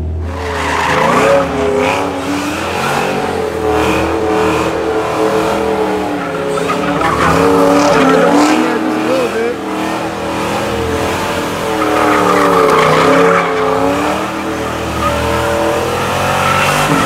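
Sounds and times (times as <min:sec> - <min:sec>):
car engine revving: 0:00.0 - 0:17.0
tyres squealing: 0:00.3 - 0:17.0.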